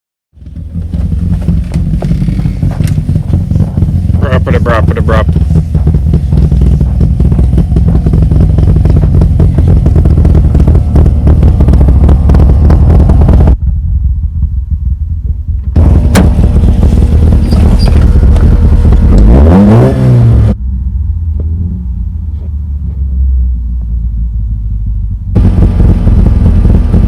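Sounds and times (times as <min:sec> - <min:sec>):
car engine running: 0:00.4 - 0:27.0.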